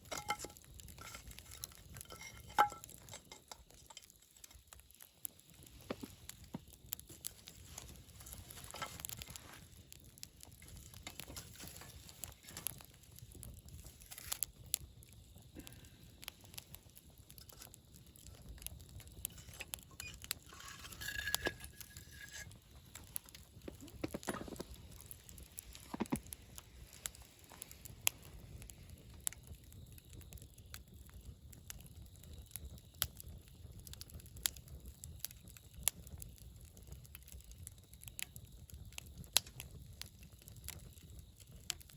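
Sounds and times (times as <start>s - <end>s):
campfire crackling and popping: 0.0s - 41.9s
low rumble of flames: 0.0s - 41.9s.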